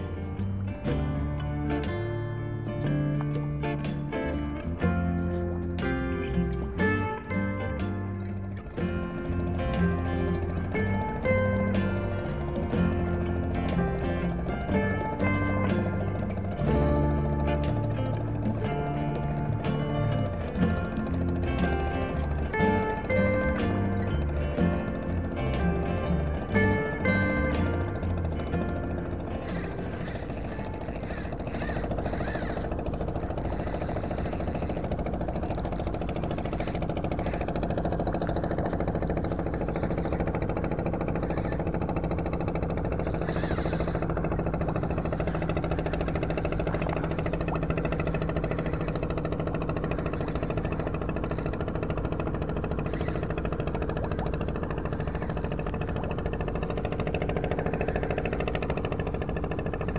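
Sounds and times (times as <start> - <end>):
engine droning: 0.0 - 59.9.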